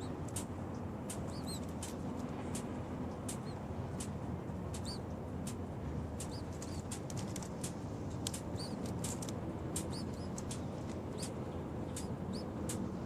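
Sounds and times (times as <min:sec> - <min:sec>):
small birds chirping: 0:00.0 - 0:05.6, 0:06.2 - 0:13.0
low background rumble: 0:00.0 - 0:13.0.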